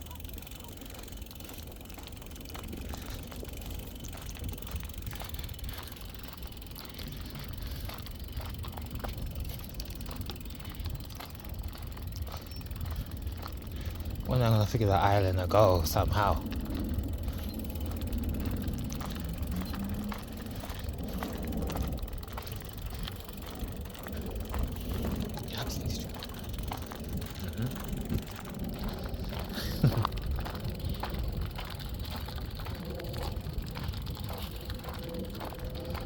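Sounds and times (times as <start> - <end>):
bicycle clicks and rattles: 0.0 - 36.0
bicycle tyres rumbling: 0.0 - 36.0
wind: 0.0 - 36.0.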